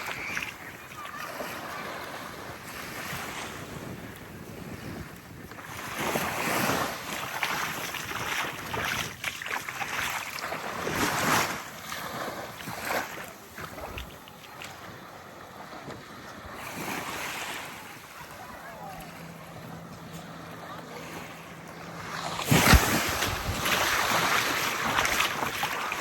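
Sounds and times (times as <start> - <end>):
small waves lapping on sand: 0.0 - 26.0
wind rumbling on microphone: 2.1 - 11.8, 12.4 - 26.0.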